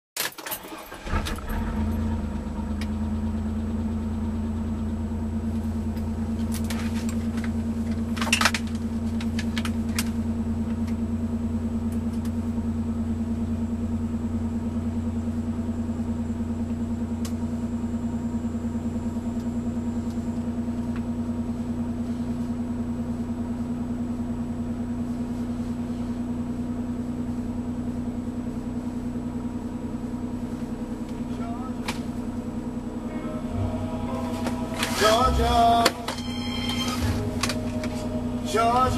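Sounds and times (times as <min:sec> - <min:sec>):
car engine starting and idling: 0:00.2 - 0:38.9
engine ticking: 0:00.7 - 0:24.0, 0:25.9 - 0:38.9.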